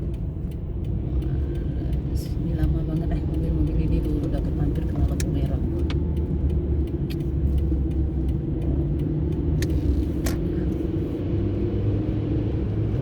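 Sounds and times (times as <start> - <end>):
sharp clicks: 0.0 - 10.6
car cabin rumble: 0.0 - 13.0.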